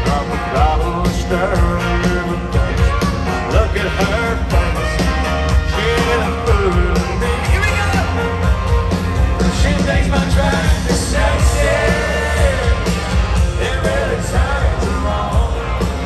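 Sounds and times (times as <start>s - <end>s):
man singing: 0.0s - 8.4s, 9.4s - 16.0s
guitars: 0.0s - 16.0s
steady drum beat: 0.0s - 16.0s.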